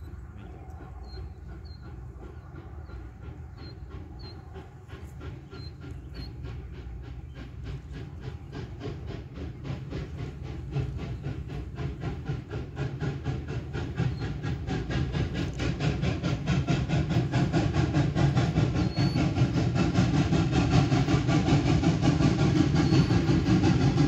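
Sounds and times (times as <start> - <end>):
train low rumble: 0.0 - 24.0
train rhythmic wheel beat: 0.0 - 24.0.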